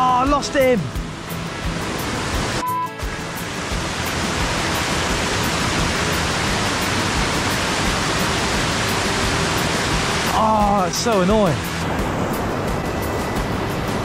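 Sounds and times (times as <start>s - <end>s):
water rushing over weir: 0.0s - 14.0s.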